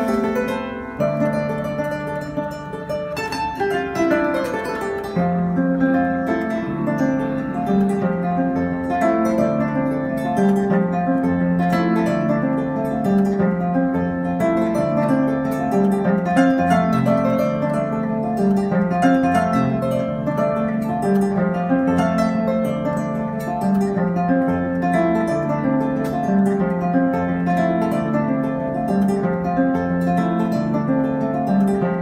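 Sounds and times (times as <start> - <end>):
harp plucked melody: 0.0 - 32.0.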